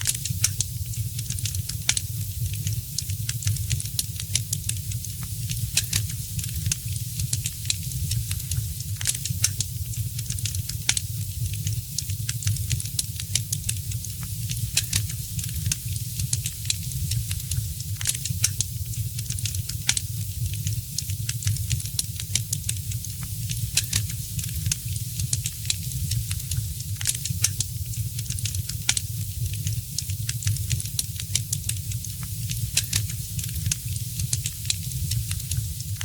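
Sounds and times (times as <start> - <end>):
fireplace fire crackling: 0.0 - 36.0.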